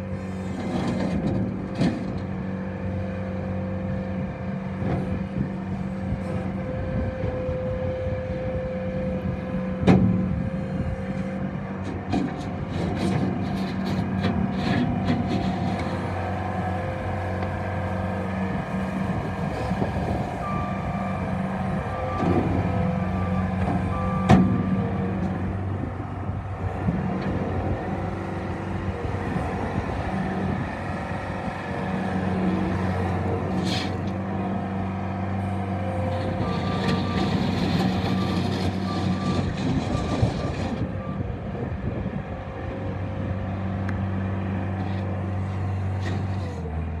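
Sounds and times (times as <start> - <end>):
diesel engine running: 0.0 - 47.0
loader driving on gravel: 0.0 - 47.0.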